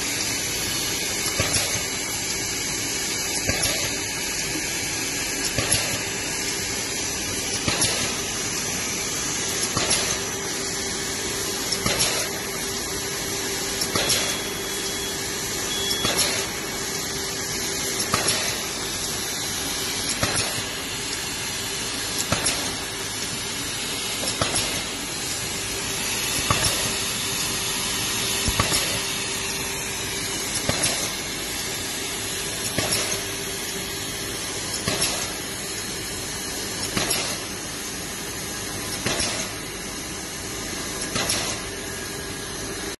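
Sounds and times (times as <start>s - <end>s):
machine hiss and hum: 0.0s - 43.0s
machine stroke clatter: 0.2s - 37.8s, 38.6s - 39.7s, 41.0s - 41.7s.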